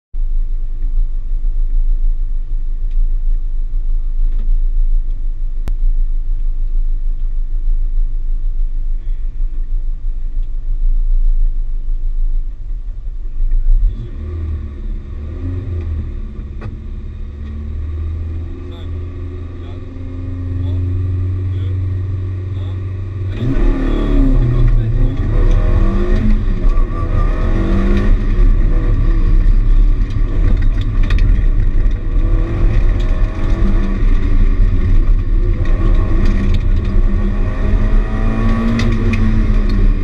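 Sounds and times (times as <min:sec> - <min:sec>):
car engine idling: 0:00.2 - 0:40.0
low rumble of vibrating car shell: 0:00.2 - 0:40.0.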